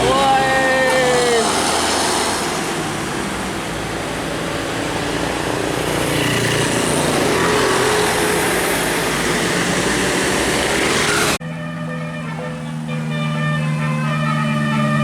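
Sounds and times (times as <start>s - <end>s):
passing vehicle engine: 0.0s - 15.0s
tyre and road noise: 0.0s - 15.0s.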